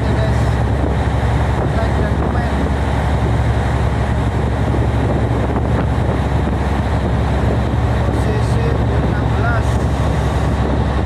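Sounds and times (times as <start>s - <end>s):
tugboat engine drone: 0.0s - 11.0s
wind buffeting microphone: 0.0s - 11.0s.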